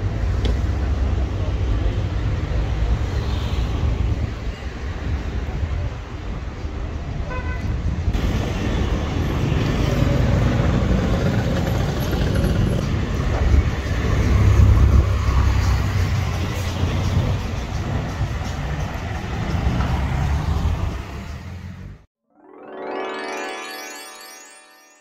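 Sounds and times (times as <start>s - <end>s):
cars and scooters passing: 0.0s - 22.1s.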